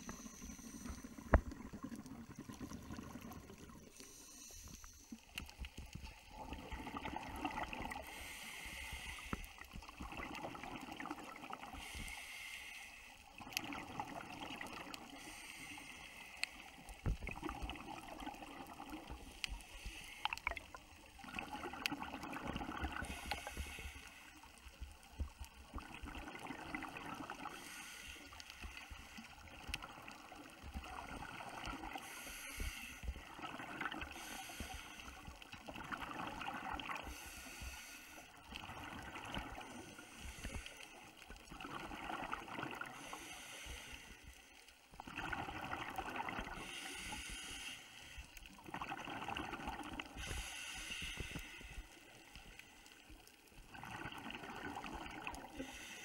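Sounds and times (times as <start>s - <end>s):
underwater exhaled bubbles: 0.0s - 12.5s, 13.2s - 56.0s.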